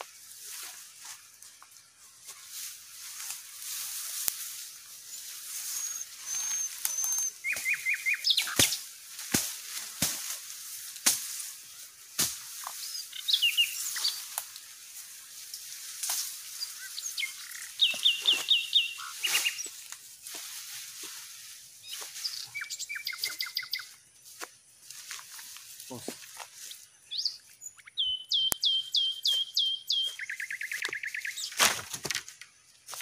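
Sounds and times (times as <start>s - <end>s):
forest birds calling: 0.0s - 9.7s, 10.6s - 32.8s.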